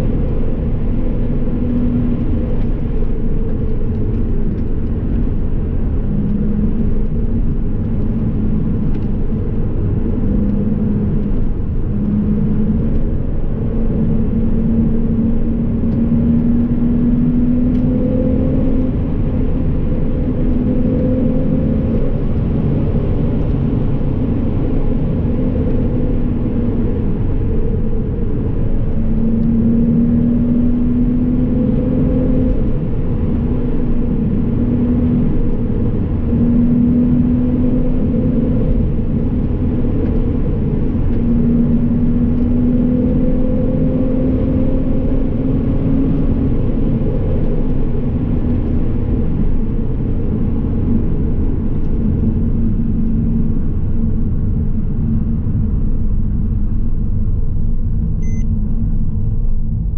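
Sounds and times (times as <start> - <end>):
car engine at speed: 0.0 - 59.9.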